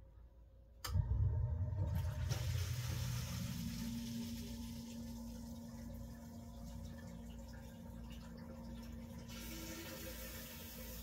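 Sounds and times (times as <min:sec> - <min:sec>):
steady hum: 0:00.0 - 0:11.0
sump pump running: 0:00.9 - 0:11.0.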